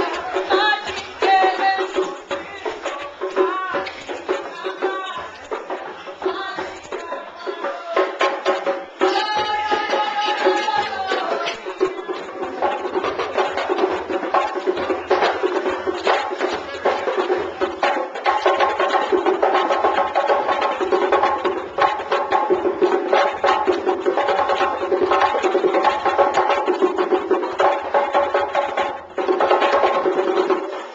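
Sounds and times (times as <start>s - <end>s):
wooden percussive beat: 0.0s - 30.9s.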